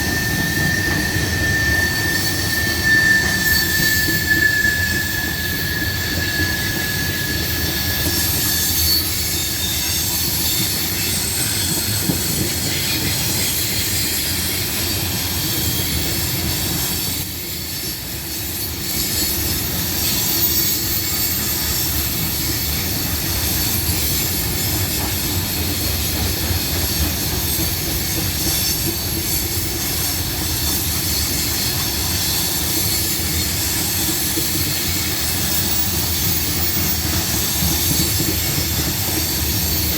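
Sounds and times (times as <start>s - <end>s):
train wheels squealing: 0.0s - 39.9s.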